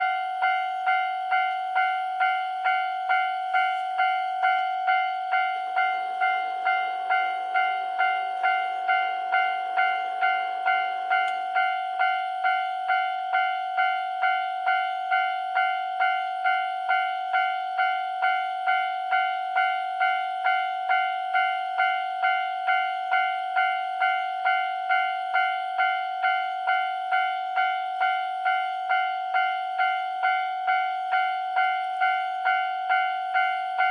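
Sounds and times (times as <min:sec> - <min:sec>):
railroad crossing electronic bell: 0:00.0 - 0:33.9.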